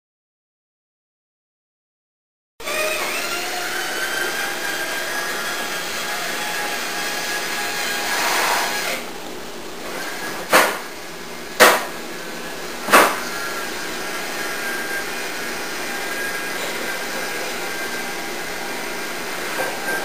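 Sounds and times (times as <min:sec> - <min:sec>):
litter box motor whirring: 0:02.6 - 0:09.2, 0:09.8 - 0:20.0.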